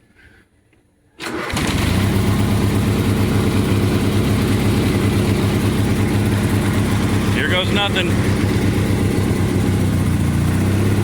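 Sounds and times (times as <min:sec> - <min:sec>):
lawn tractor engine running: 0:01.2 - 0:11.0.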